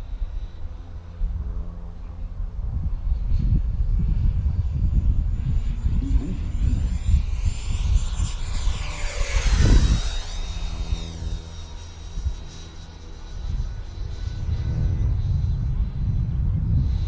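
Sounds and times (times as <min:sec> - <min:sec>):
model jet fan whine passing: 0:00.0 - 0:17.0
wind rumble on microphone: 0:00.0 - 0:17.0.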